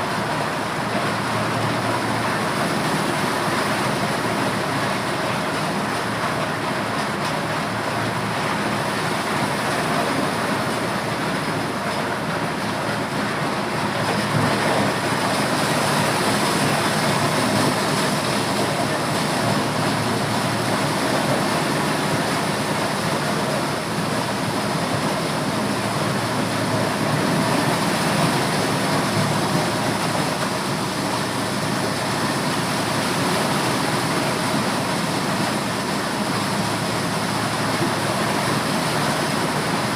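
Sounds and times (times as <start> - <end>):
corn sheller machine running: 0.0 - 39.9.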